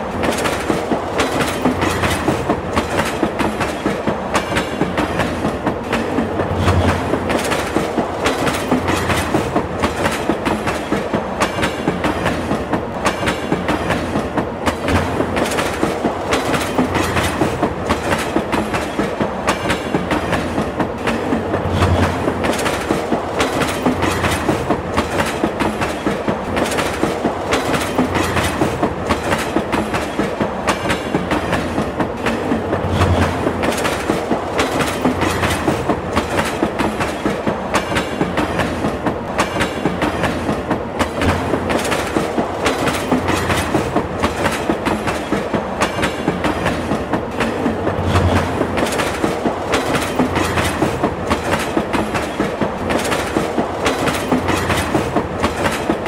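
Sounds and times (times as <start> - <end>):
continuous train rumble: 0.0 - 56.0
train wheels clacking over joints: 0.0 - 56.0.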